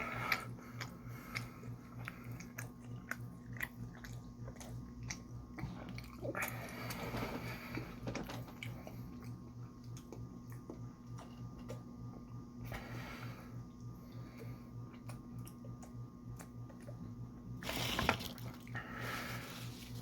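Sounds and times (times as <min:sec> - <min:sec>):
steady low hum: 0:00.0 - 0:20.0
chewing food: 0:00.1 - 0:12.4, 0:13.7 - 0:19.2.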